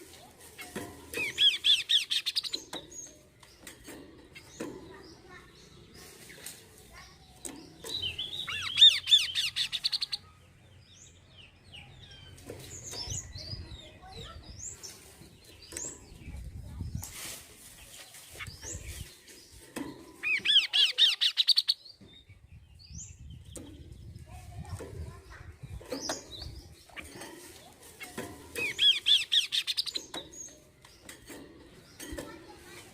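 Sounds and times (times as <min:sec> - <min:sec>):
bird chirping: 0:00.6 - 0:17.1, 0:17.8 - 0:24.3, 0:25.3 - 0:32.8.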